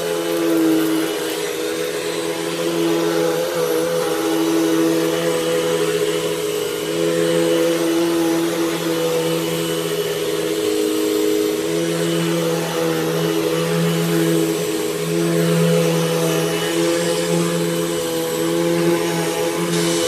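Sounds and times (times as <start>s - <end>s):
vacuum cleaner running on rug: 0.0s - 20.0s.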